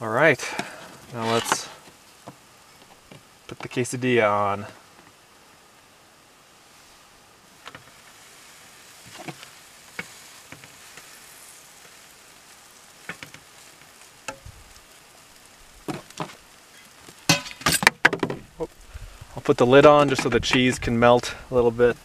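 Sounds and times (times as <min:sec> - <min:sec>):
tortilla sizzling in pan: 0:00.2 - 0:22.0.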